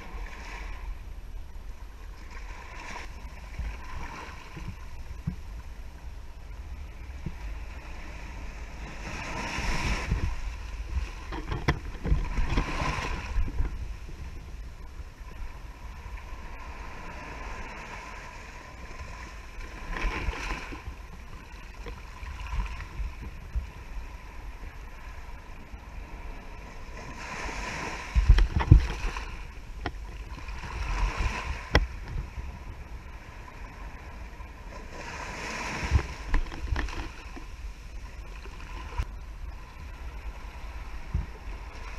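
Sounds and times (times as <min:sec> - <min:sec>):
wind rumble on microphone: 0:00.0 - 0:41.9
waves washing on sand: 0:02.2 - 0:05.4, 0:06.9 - 0:41.9.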